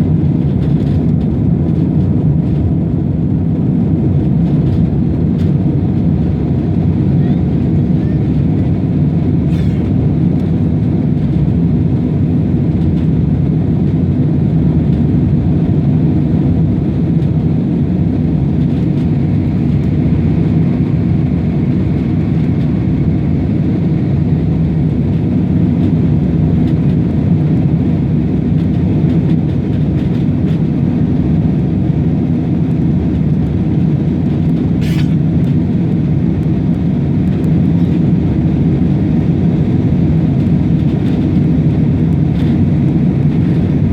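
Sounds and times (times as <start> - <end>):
airplane taking off: 0.0 - 43.9.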